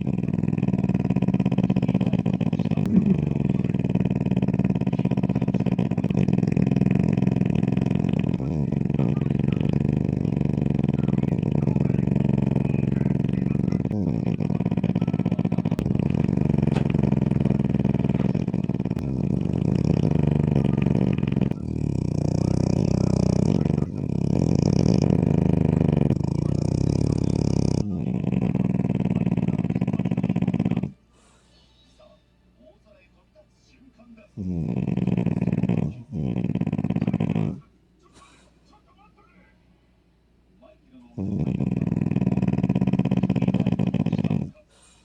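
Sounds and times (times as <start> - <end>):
dog snoring: 0.0 - 31.5, 34.2 - 38.4, 41.0 - 45.0.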